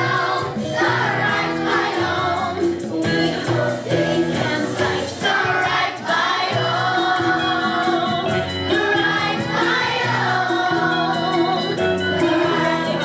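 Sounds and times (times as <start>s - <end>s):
group of voices singing: 0.0s - 13.0s
instrumental accompaniment with beat: 0.0s - 13.0s.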